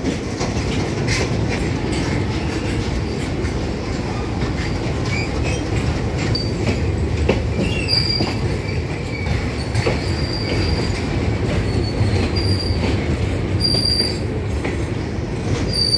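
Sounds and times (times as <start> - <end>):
train wheels rumbling on rail: 0.0 - 15.9.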